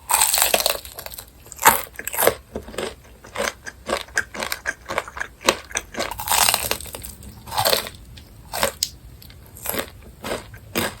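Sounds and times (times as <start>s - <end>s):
crunching fried chicken: 0.0s - 11.0s.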